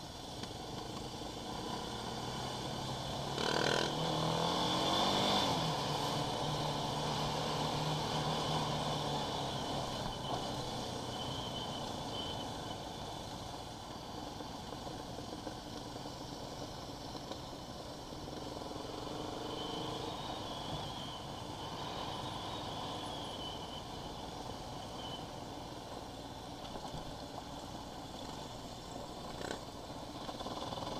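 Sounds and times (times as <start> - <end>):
quad bike engine running: 0.3 - 21.4, 25.7 - 30.9.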